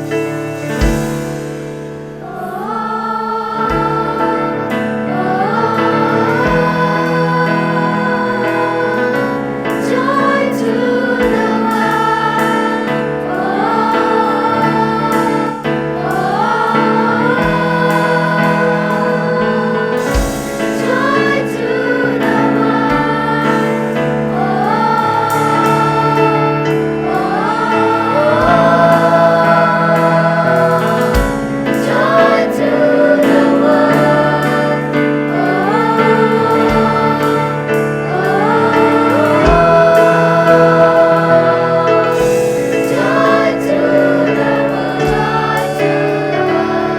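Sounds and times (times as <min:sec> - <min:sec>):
school choir singing: 0:00.0 - 0:46.9.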